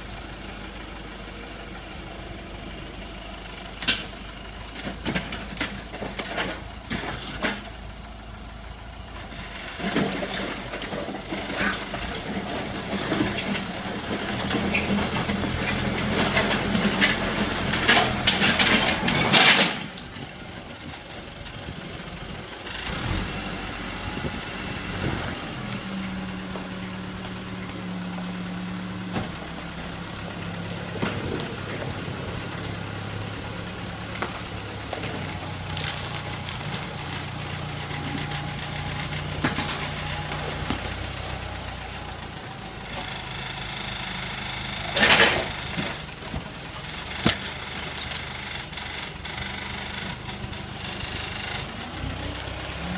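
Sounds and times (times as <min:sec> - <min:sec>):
diesel engine running under work: 0:00.0 - 0:52.9.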